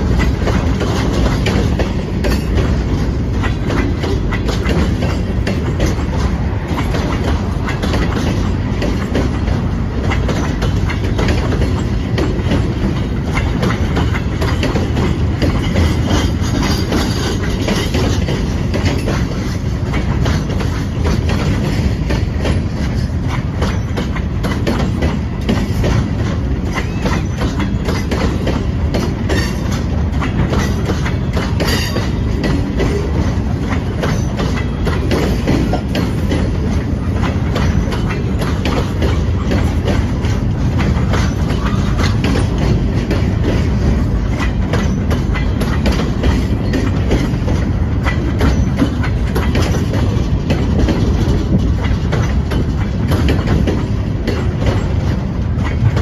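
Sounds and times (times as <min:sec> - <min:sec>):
model train rumbling: 0:00.0 - 0:56.0
wheels clicking over rail joints: 0:00.0 - 0:56.0.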